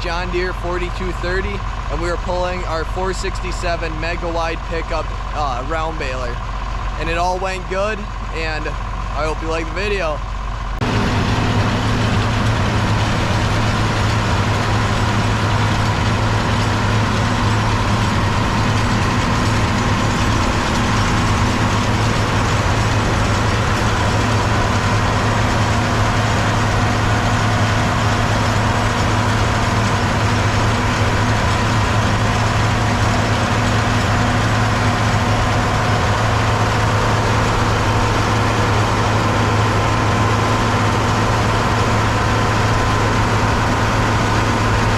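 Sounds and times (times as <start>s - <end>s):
steady high whine: 0.0s - 44.9s
tractor diesel engine running: 0.0s - 44.9s.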